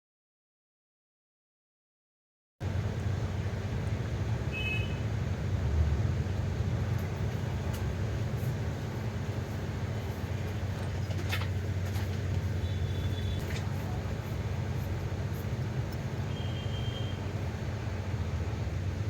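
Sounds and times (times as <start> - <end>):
low mechanical hum: 2.6 - 19.0.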